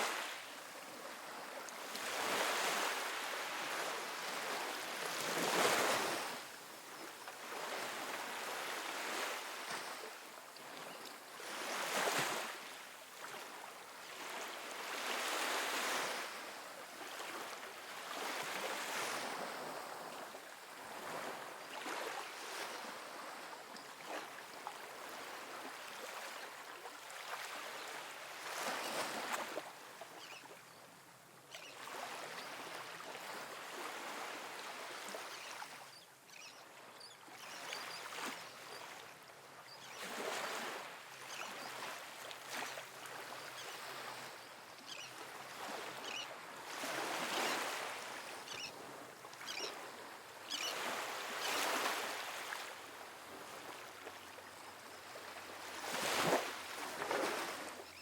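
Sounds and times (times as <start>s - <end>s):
soft ocean waves on beach: 0.0s - 58.0s.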